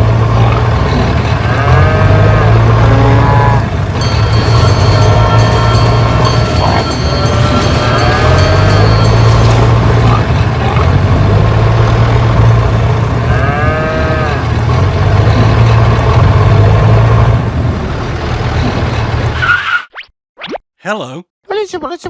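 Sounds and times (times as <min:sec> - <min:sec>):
engine-like rumble: 0:00.0 - 0:19.4.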